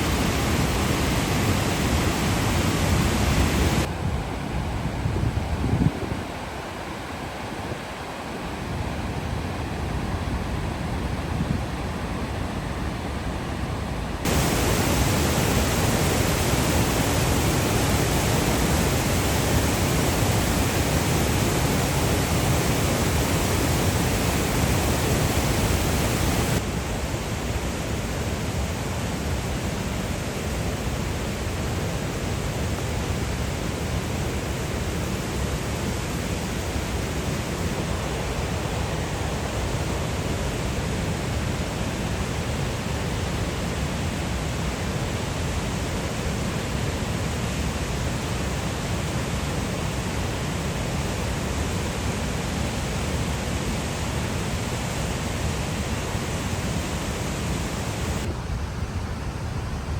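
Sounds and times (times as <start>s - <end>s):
fast-flowing water rushing: 0.0s - 4.0s, 14.2s - 58.8s.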